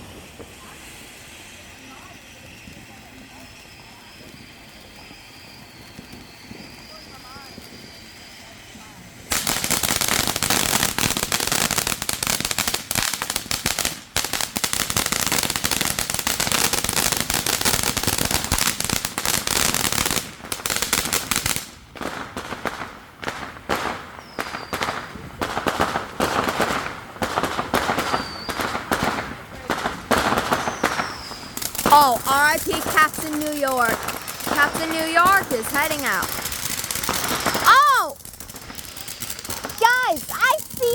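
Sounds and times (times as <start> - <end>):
firecrackers crackling and popping: 0.0 - 40.9.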